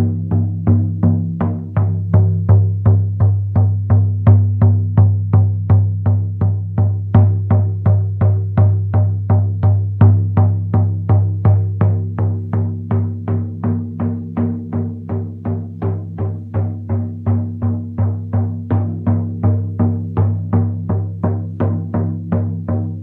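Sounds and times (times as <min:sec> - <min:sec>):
frame drum beating: 0:00.0 - 0:23.0.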